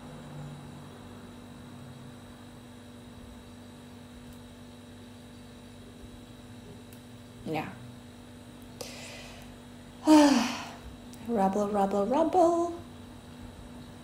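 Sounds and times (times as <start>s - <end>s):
faint electrical hum with hiss: 0.0s - 14.0s.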